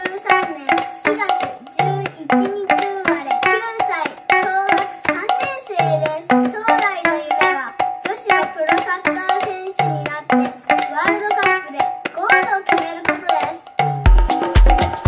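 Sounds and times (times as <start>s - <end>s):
quick percussion hits: 0.0s - 15.0s.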